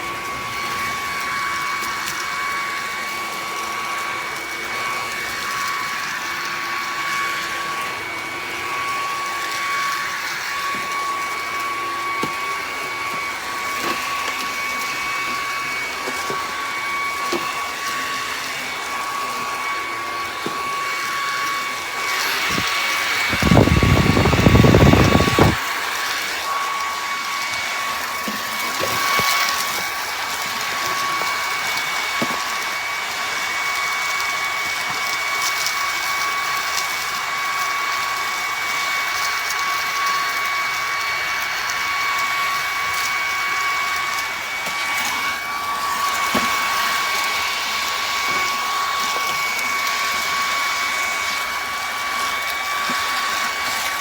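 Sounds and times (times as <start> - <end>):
vacuum motor whine: 0.0 - 54.0.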